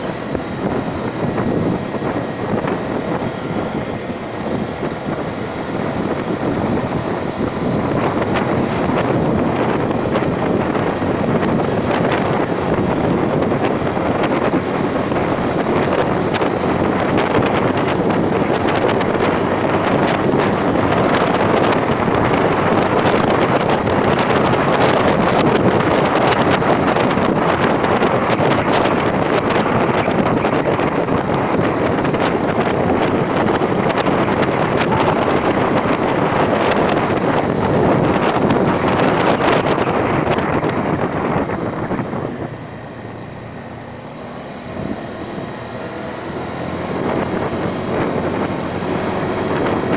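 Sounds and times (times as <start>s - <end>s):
vehicle running: 0.0s - 49.9s
wind buffeting microphone: 0.0s - 49.9s.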